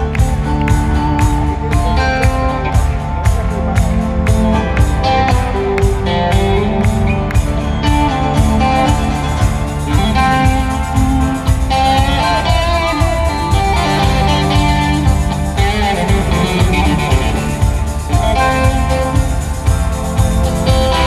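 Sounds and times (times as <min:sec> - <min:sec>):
electric guitar lead lines: 0:00.0 - 0:21.0
live rock band: 0:00.0 - 0:21.0.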